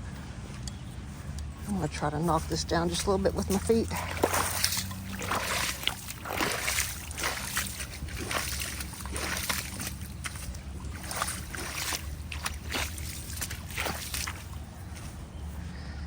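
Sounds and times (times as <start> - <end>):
feet splashing in shallow water: 0.7 - 15.7.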